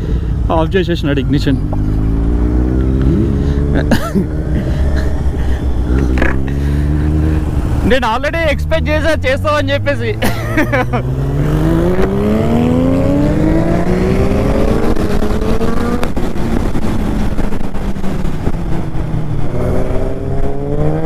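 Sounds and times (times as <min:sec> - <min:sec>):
heavy wind rush: 0:00.0 - 0:21.0
motorcycle engine accelerating: 0:01.0 - 0:21.0.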